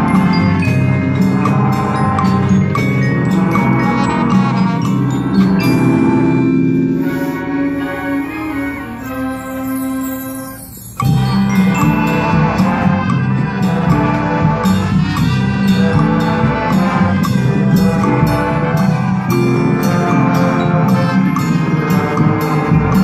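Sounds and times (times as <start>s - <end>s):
percussion hits: 0.0s - 7.4s, 10.1s - 23.0s
brass and woodwind notes: 0.0s - 23.0s
mallet percussion: 0.0s - 23.0s.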